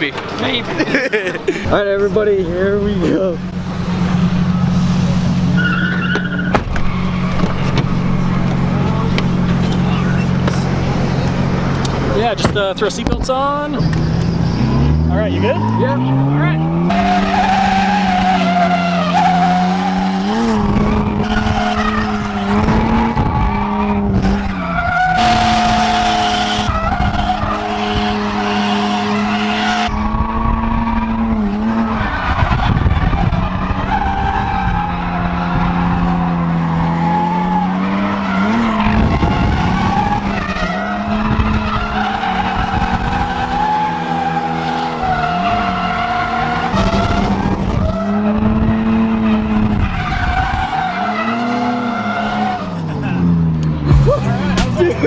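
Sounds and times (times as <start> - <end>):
car engine revving high: 0.0 - 55.0
tyres skidding: 0.0 - 55.0.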